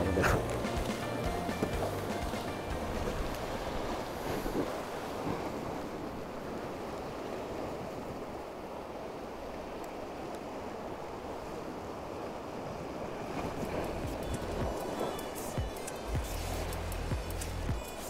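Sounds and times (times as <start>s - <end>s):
ocean surf on rocky shore: 0.0s - 18.0s.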